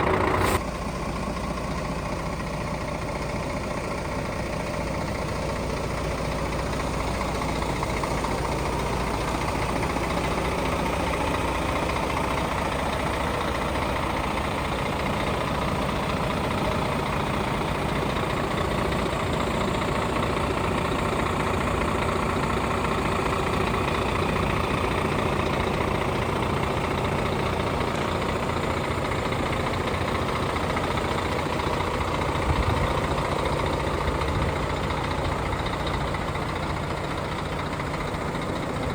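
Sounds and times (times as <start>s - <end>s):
diesel truck idling: 0.0s - 38.9s.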